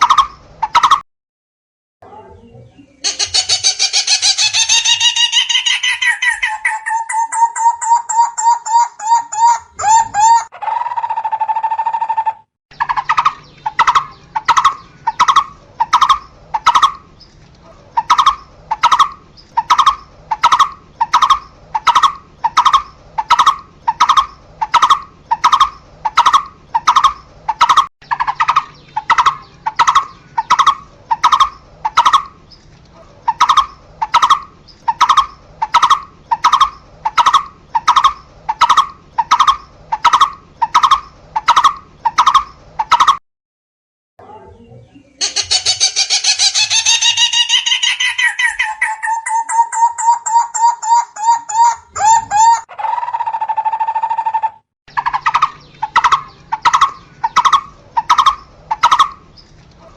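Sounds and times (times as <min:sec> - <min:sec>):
barbet calling: 0:03.0 - 0:17.1, 0:18.0 - 0:32.4, 0:33.3 - 0:43.2, 0:45.2 - 0:59.2.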